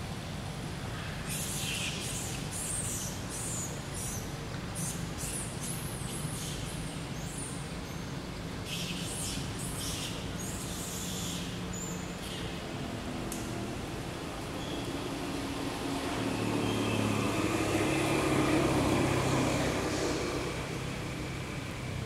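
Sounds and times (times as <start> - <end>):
small birds chirping: 1.0 - 12.7, 14.3 - 21.2.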